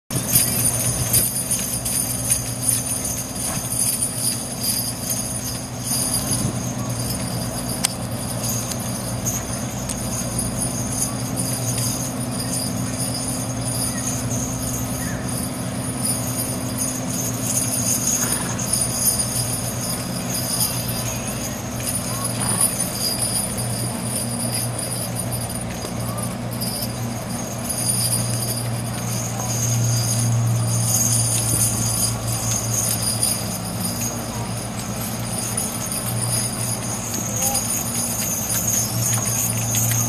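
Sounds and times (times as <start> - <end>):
harness hardware jingling: 0.1 - 40.0
steady low hum: 0.1 - 40.0.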